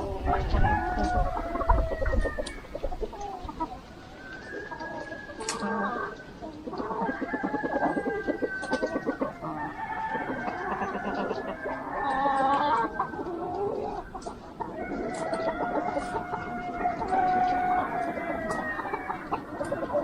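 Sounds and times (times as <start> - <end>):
chickens clucking: 0.0 - 20.0
drawn-out chicken call: 0.0 - 20.0.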